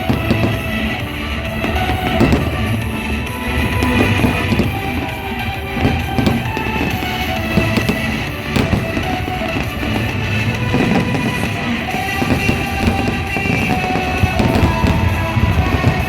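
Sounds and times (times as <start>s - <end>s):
firework bang: 0.0s - 16.0s.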